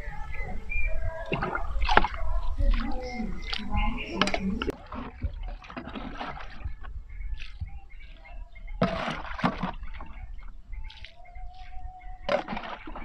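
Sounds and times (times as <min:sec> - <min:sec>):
liquid sloshing in plastic bucket: 0:01.3 - 0:07.7, 0:08.8 - 0:13.0
water splashing onto soil: 0:01.3 - 0:08.2, 0:08.8 - 0:13.0.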